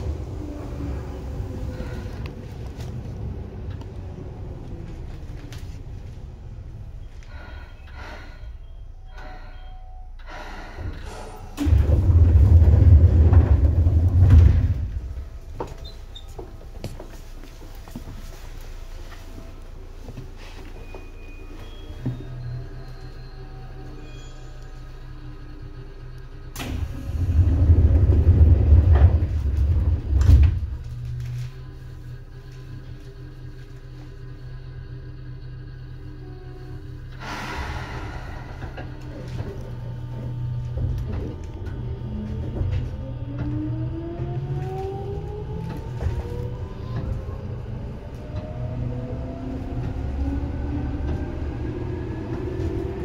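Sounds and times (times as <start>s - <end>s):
deep train rumble: 0.0s - 53.0s.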